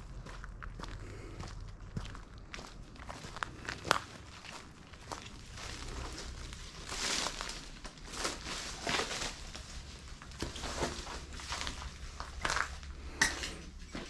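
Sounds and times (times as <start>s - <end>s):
footsteps walking: 0.0s - 14.0s.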